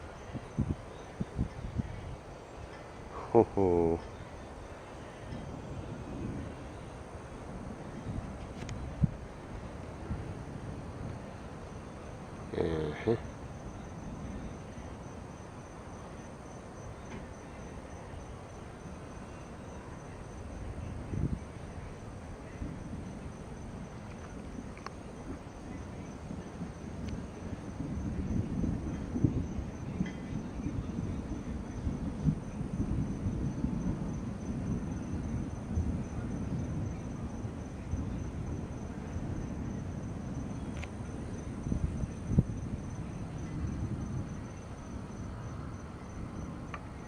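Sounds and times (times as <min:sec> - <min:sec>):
insects trilling: 0:00.0 - 0:47.0
low rumbling noise: 0:00.0 - 0:47.0.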